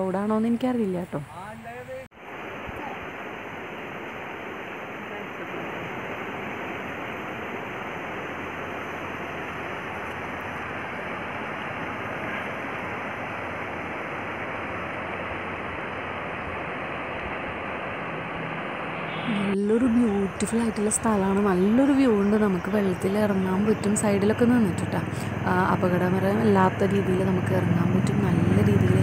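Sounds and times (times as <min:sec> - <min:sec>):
river current rushing: 0:02.1 - 0:29.0.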